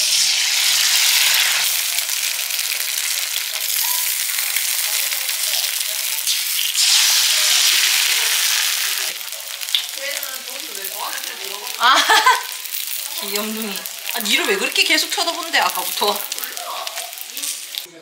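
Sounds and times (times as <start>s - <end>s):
food sizzling in a hot pan: 0.0s - 17.9s.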